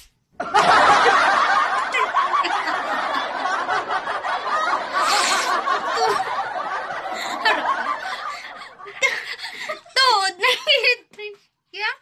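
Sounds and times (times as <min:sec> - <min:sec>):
women laughing hard: 0:00.4 - 0:10.8.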